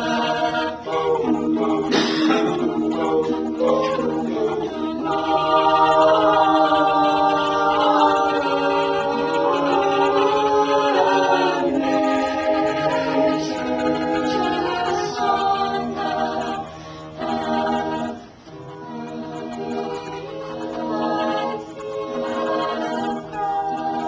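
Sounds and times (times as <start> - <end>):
vocal group singing in harmony: 0.0 - 24.0.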